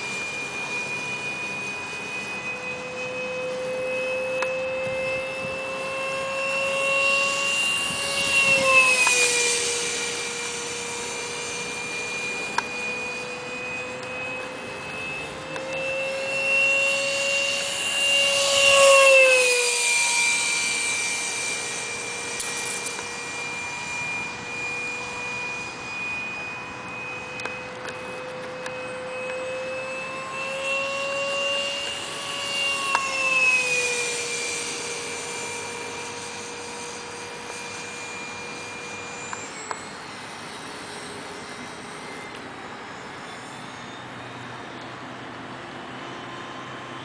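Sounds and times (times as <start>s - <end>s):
model jet fan whine passing: 0.0s - 47.0s.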